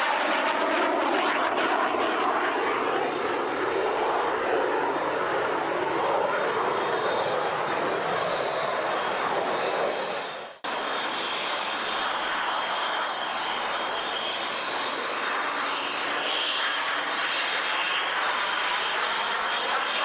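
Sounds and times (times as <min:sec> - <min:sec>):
jet engine roar with whine: 0:00.0 - 0:20.0.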